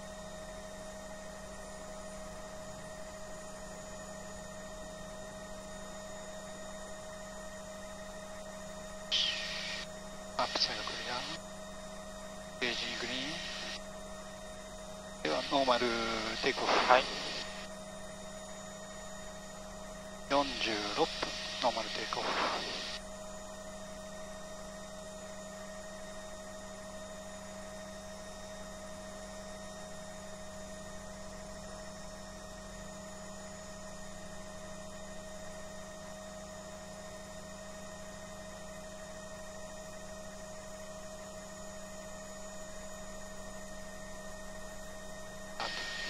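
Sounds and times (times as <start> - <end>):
helicopter cabin hum with whining tones: 0.0 - 46.0.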